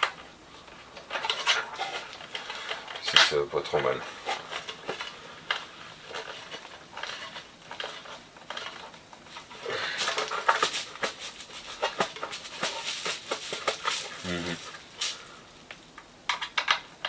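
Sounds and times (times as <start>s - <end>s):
small parts clicking and scraping: 0.0s - 17.0s.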